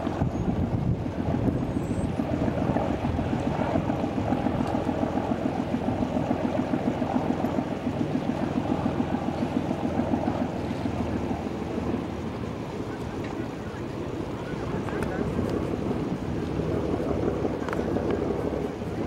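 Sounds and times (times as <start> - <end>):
boat engine throbbing: 0.0 - 19.0.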